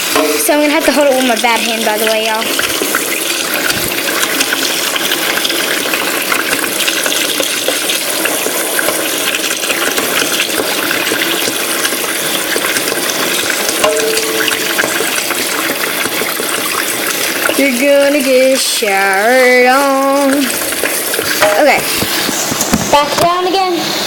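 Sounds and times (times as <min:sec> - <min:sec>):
tap water running and splashing: 0:00.0 - 0:24.0.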